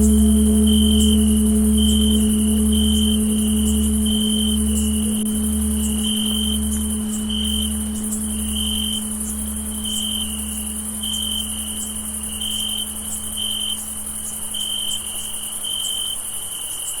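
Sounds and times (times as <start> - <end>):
tolled bell hum: 0.0 - 16.4
high insect buzz: 0.0 - 16.5
crickets chirping: 0.0 - 17.0.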